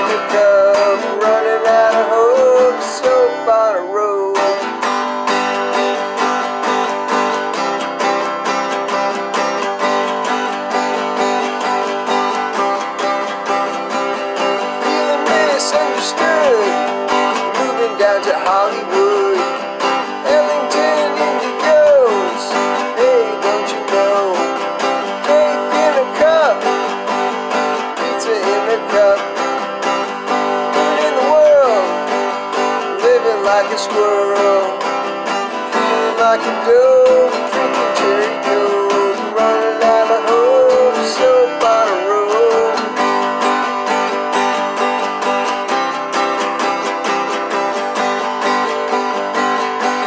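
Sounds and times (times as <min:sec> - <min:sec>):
man singing: 0:00.0 - 0:09.1, 0:13.2 - 0:44.4
acoustic guitar strumming: 0:00.0 - 0:50.0.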